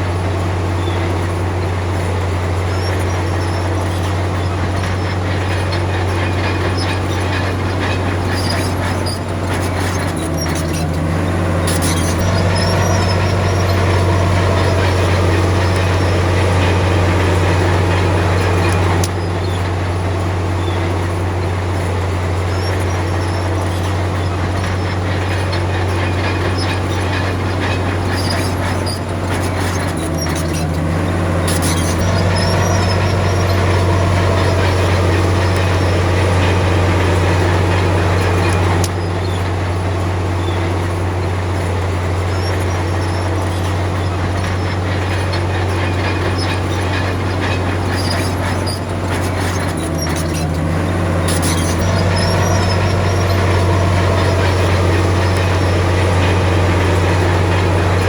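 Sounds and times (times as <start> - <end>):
diesel engine droning: 0.0 - 58.0
metallic clanks and squeaks of tracks: 0.0 - 58.0.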